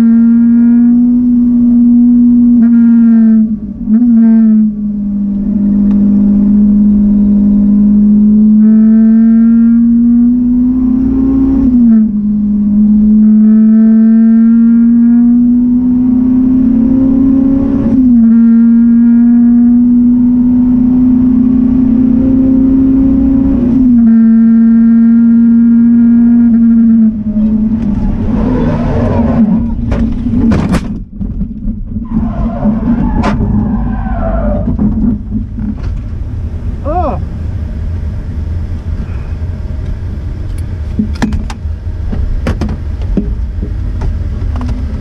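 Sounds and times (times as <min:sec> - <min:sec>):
car engine accelerating hard: 0:00.0 - 0:45.0.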